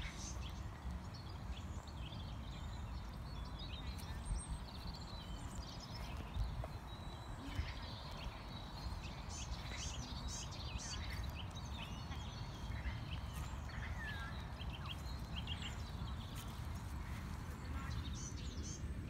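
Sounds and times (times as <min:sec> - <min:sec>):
birds chirping and singing: 0:00.0 - 0:19.0.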